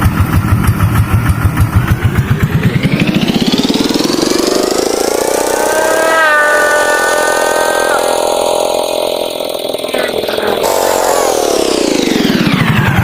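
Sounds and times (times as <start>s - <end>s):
tractor engine at high revs: 0.0s - 13.0s.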